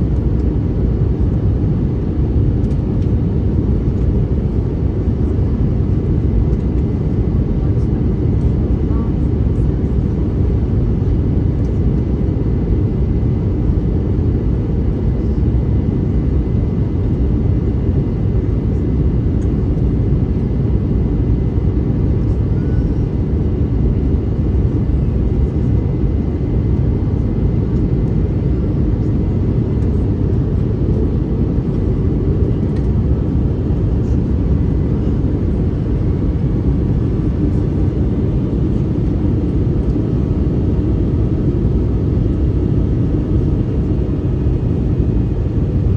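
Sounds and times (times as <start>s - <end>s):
jet engine roar in cabin: 0.0s - 45.9s.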